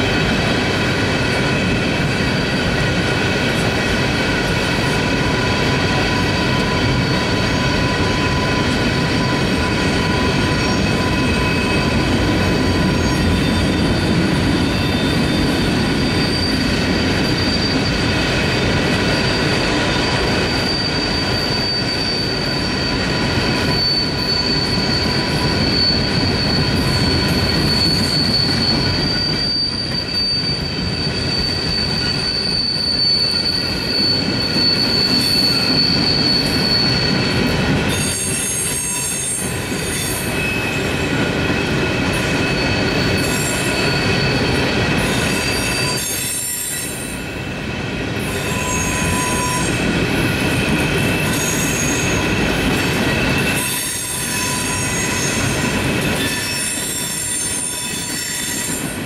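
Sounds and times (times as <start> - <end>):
wheel flanges squealing: 4.6 - 47.2, 48.2 - 58.9.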